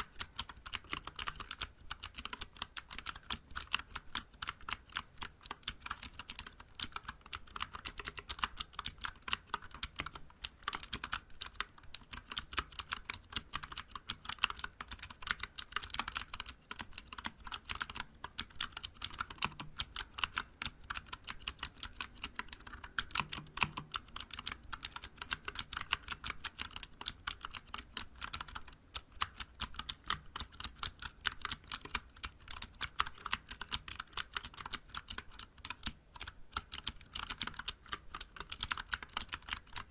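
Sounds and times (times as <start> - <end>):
fast clicky mechanical keyboard typing: 0.0 - 39.9.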